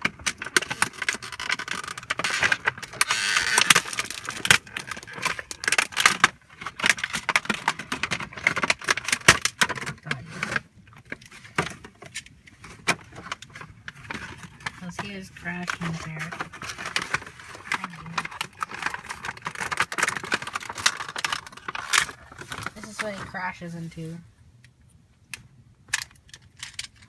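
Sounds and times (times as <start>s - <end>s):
plastic toy parts clicking and rattling: 0.0s - 23.4s, 25.9s - 27.0s
packaging crinkling: 0.0s - 23.5s.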